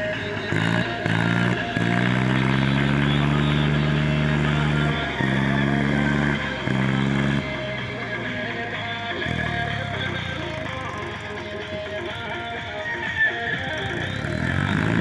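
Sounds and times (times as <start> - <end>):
background music: 0.0 - 15.0
heavy vehicle engine running: 0.0 - 15.0.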